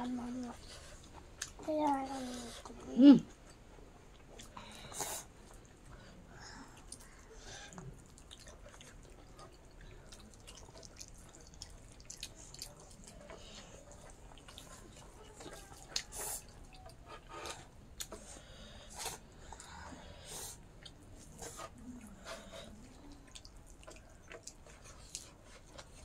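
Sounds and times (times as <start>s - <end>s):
wet chewing: 0.2s - 26.0s.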